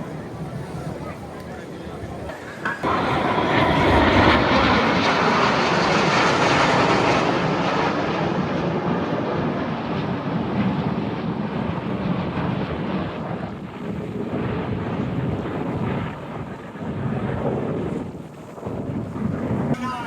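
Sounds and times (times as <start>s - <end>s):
aircraft flying past: 0.0s - 18.0s.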